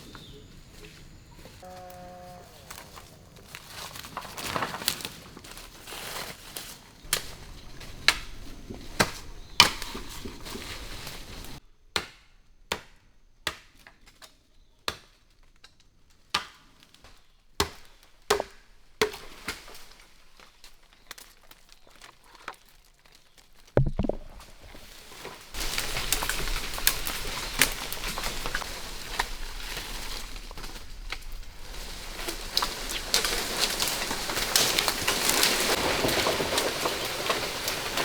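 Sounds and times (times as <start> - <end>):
rustling stalks and leaves: 0.0 - 11.6, 19.0 - 38.0.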